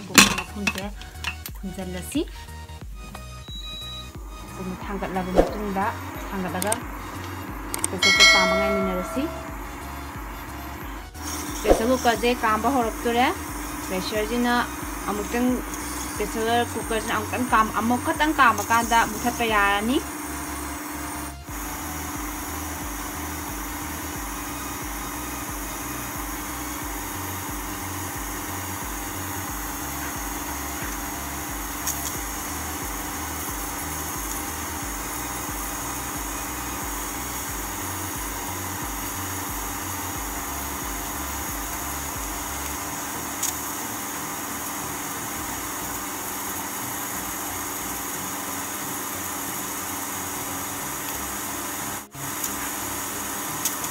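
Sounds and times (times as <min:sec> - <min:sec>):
pressure cooker hissing and humming: 0:00.0 - 0:53.9.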